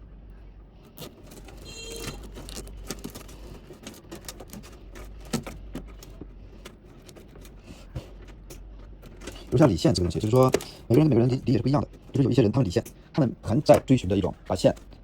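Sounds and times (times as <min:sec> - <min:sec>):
cables and ties clicking and rattling: 0:00.8 - 0:15.0.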